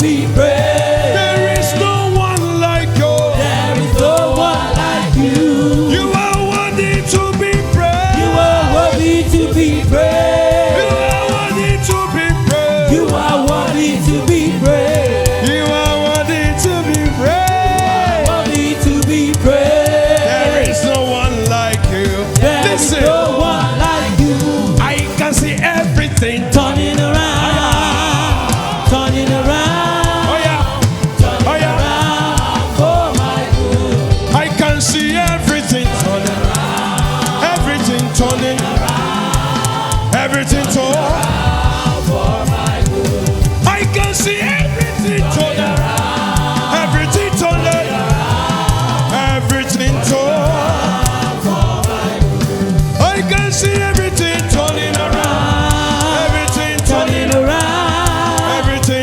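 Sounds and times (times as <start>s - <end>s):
choir singing gospel song: 0.0s - 59.0s
instruments playing along: 0.0s - 59.0s
steady bass: 0.0s - 59.0s.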